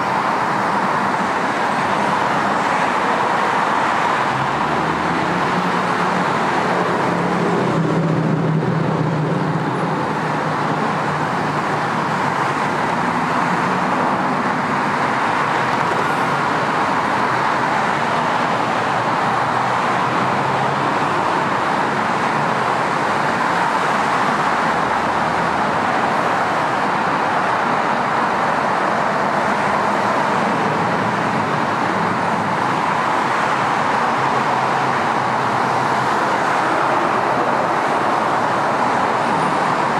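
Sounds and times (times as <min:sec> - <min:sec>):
freeway traffic rushing: 0:00.0 - 0:39.9.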